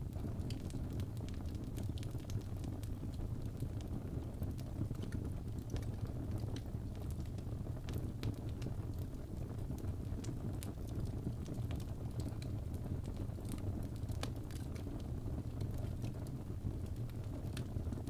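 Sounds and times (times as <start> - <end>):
fireplace crackling: 0.1 - 18.0.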